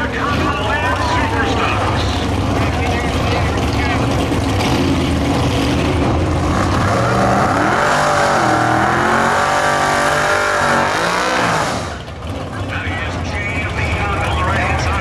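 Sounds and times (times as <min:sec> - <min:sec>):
racing car engine shifting gears: 0:00.0 - 0:13.3.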